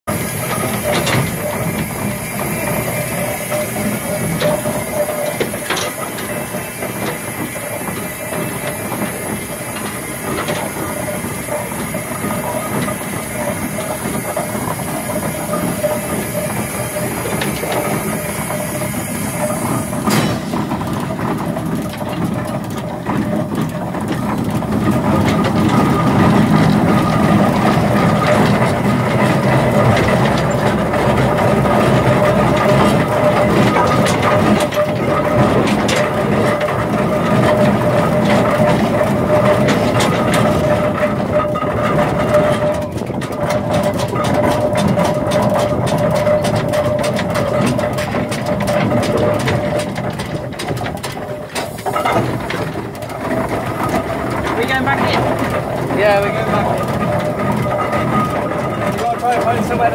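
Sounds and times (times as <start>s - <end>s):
steam engine working: 0.0s - 59.9s
steam hissing: 0.1s - 43.0s, 44.4s - 59.9s.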